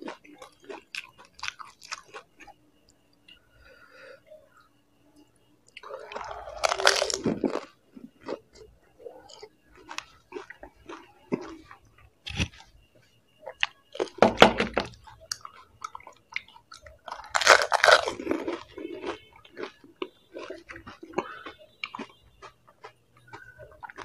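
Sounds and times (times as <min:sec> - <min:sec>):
chewing crunchy food: 0:00.0 - 0:03.8, 0:05.6 - 0:24.0.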